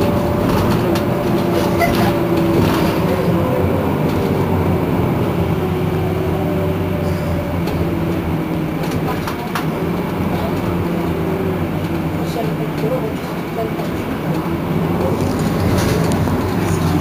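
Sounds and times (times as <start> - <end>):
bus drivetrain humming with whine: 0.0 - 17.0.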